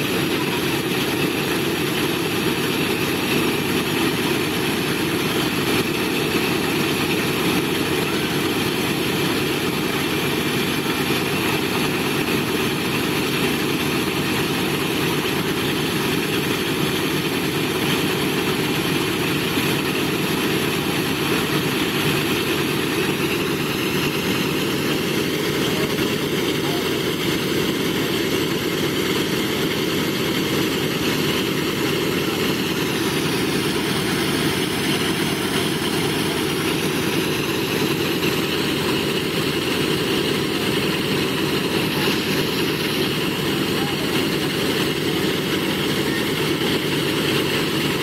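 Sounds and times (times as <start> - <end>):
radial aircraft engines idling: 0.0 - 48.0.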